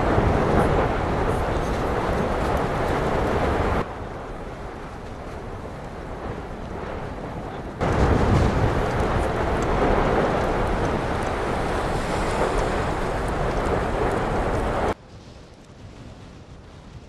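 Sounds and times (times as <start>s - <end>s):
lava crackles: 0.0s - 17.0s
lava fountain rushing: 0.0s - 17.0s.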